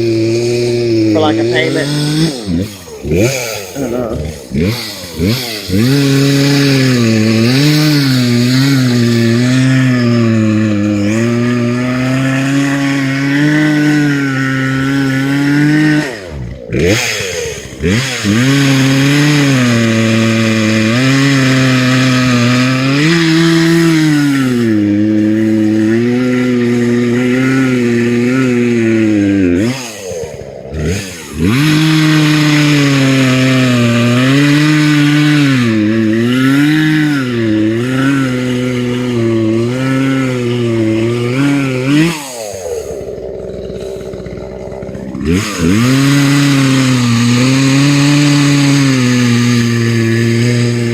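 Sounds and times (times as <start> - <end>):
chainsaw cutting tree: 0.0 - 50.9.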